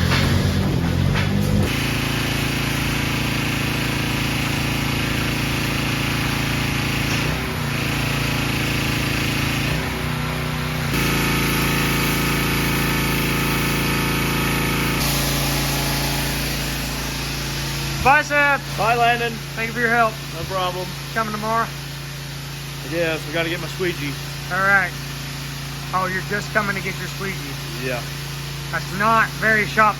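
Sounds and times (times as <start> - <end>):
pressure washer motor drone: 0.0 - 29.9.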